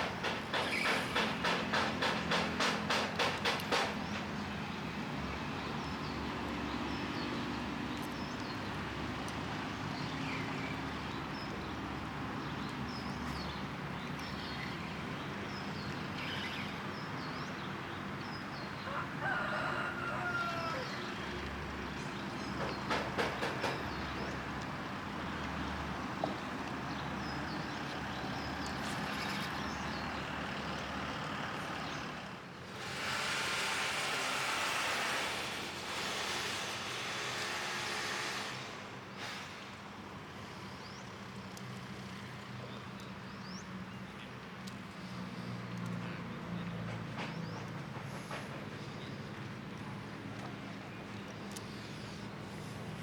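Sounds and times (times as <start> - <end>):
road traffic: 0.0 - 53.0.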